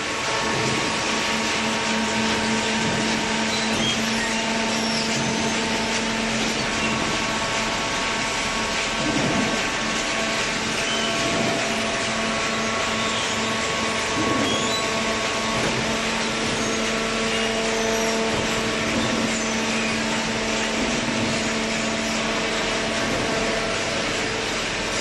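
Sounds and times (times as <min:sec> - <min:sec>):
baler machine hum and whine: 0:00.0 - 0:25.0.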